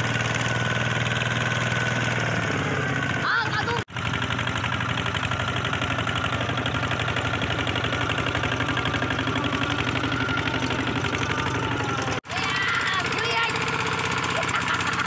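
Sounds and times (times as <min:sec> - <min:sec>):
diesel tractor engine chugging: 0:00.0 - 0:15.0.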